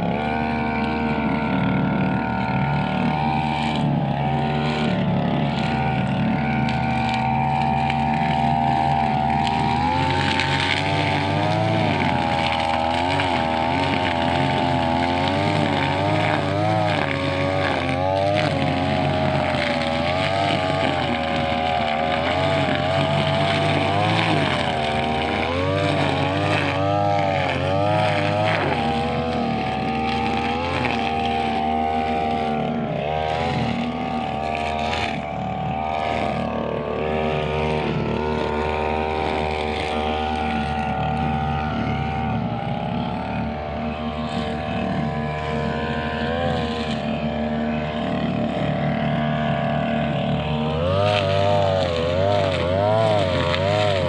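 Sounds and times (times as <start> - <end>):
brushcutter engine at high revs: 0.0 - 54.0.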